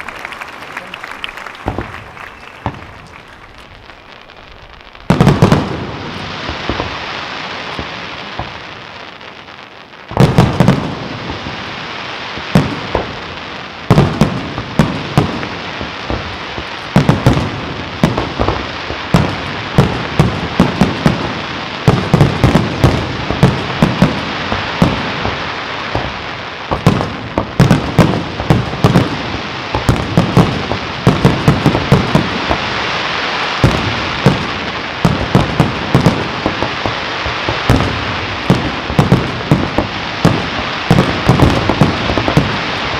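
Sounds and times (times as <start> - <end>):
crackling fireworks: 0.0 - 42.9.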